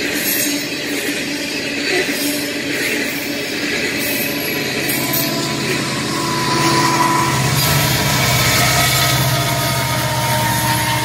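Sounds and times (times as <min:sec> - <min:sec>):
diesel locomotive engine hum: 0:00.0 - 0:11.0
train wheels rumbling on rail: 0:00.0 - 0:11.0.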